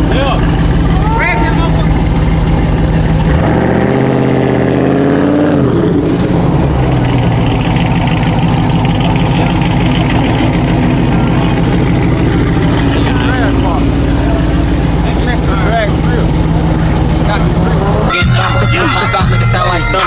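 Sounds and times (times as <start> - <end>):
car engine revving: 0.0 - 20.0
road noise: 0.0 - 20.0.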